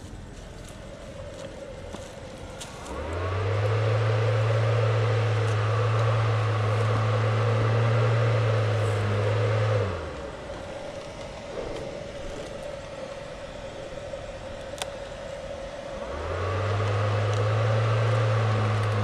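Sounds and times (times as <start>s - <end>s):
motor humming and whirring: 0.0s - 19.0s.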